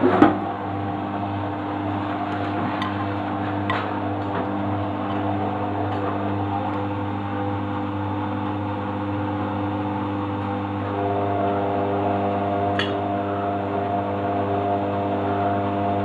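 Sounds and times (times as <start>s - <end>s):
washing machine motor hum: 0.0s - 16.0s
whining tones: 0.0s - 16.0s.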